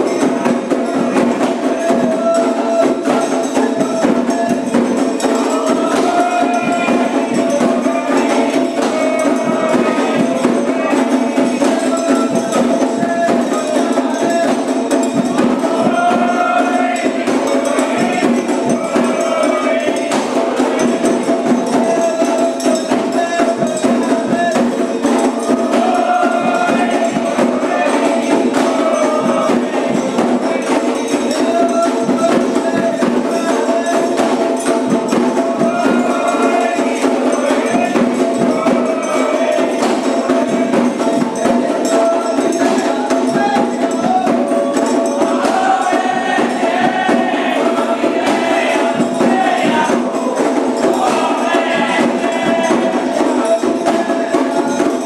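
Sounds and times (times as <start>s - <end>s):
dense rattling percussion: 0.0s - 55.0s
voices singing: 0.0s - 55.0s.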